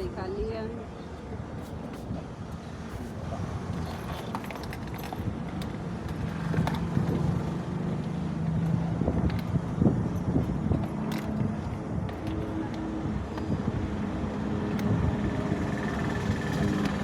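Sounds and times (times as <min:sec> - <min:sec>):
outdoor street noise: 0:00.0 - 0:17.0
vehicle engine humming: 0:00.0 - 0:17.0.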